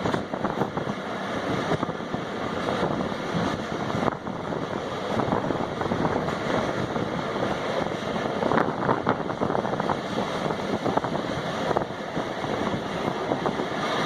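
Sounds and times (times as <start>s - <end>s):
train wheels rushing on rail: 0.0s - 14.0s
wheels clacking over rail joints: 0.0s - 14.0s.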